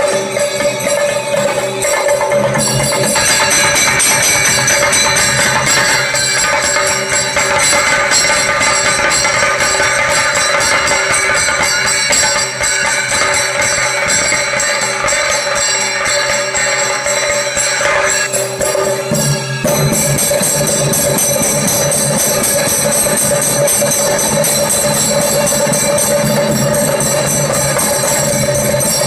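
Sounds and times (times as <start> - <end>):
drum ensemble beaten with sticks: 0.0 - 29.0
small hand cymbals ringing: 0.0 - 29.0.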